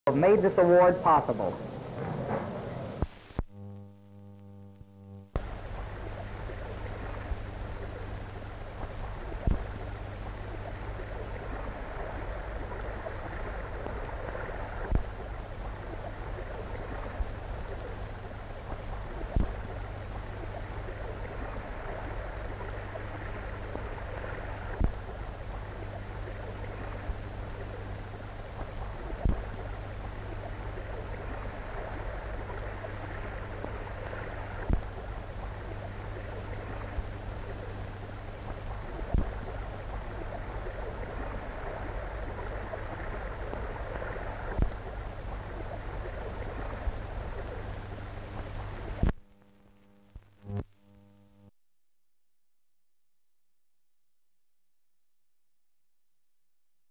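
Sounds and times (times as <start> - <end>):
film soundtrack hiss: 0.1 - 51.5
low hum: 0.1 - 51.5.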